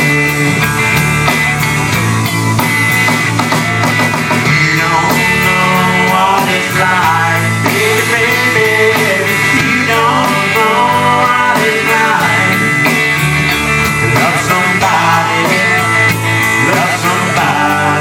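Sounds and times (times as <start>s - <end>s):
bass and drums: 0.0s - 18.0s
electric guitar lead: 0.0s - 18.0s.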